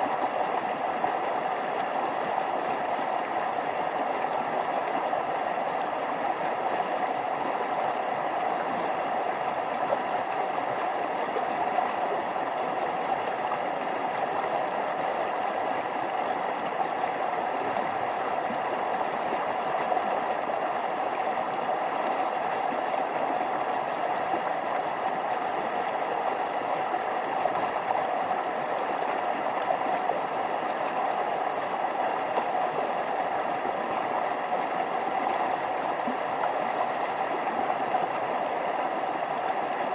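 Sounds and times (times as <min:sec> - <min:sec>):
stream flowing over small waterfalls: 0:00.0 - 0:39.9.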